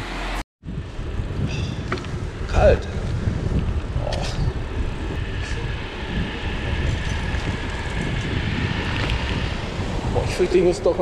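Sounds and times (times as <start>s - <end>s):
wind buffeting microphone: 0.6s - 11.0s.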